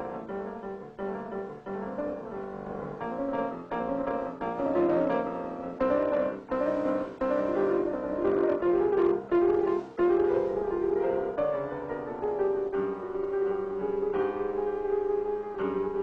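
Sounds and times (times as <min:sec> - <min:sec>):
piano-led cartoon music: 0:00.0 - 0:16.0.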